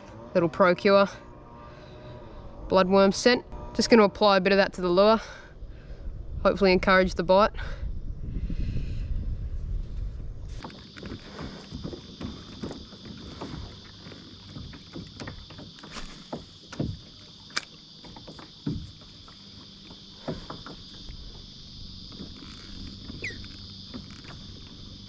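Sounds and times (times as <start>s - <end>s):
steady high-pitched buzz: 0.0s - 25.0s.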